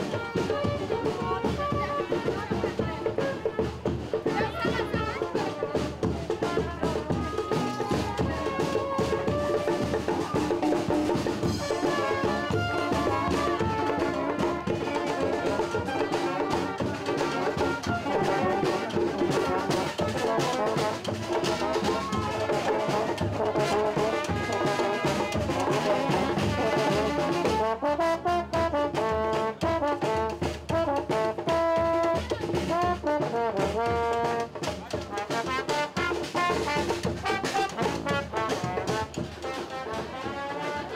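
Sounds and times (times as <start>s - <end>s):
brass band playing: 0.0s - 40.9s.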